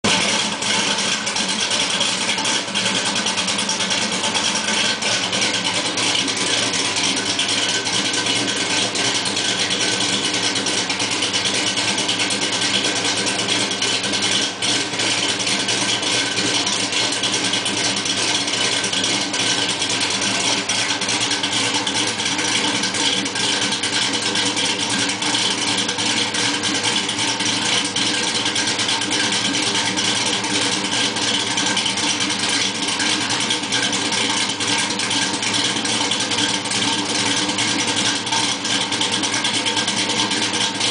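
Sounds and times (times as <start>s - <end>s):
vee eight engine idling: 0.0s - 40.9s.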